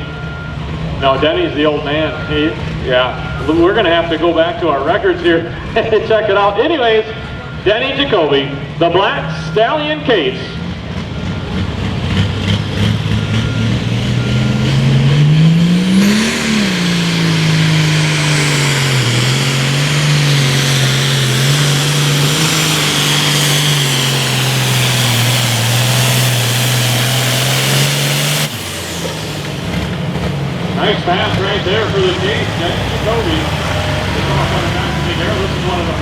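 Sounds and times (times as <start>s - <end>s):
tractor diesel engine at full throttle: 0.0s - 36.0s.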